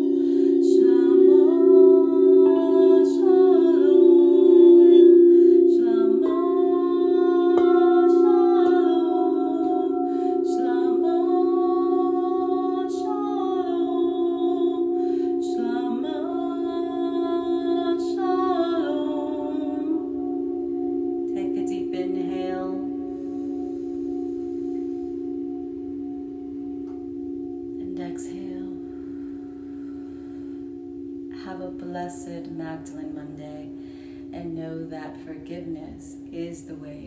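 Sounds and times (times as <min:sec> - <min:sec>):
steady low drone: 0:00.0 - 0:34.9
wordless vocal melody: 0:00.0 - 0:37.0.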